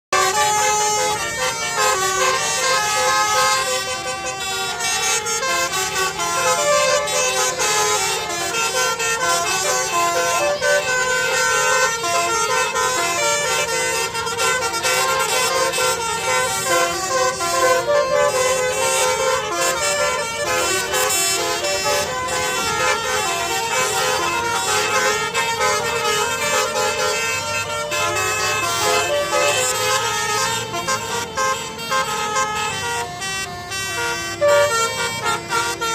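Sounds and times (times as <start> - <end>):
bus air horn playing melody: 0.0 - 35.9.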